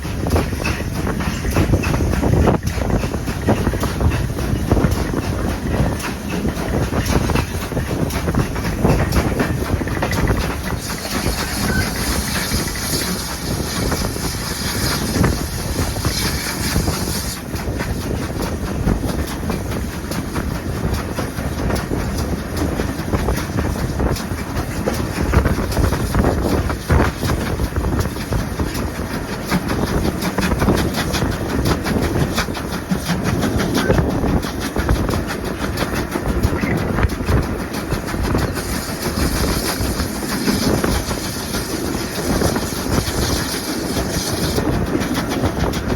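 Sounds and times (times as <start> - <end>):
train rumbling along track: 0.0 - 45.9
wheels clicking over rail joints: 0.0 - 45.9.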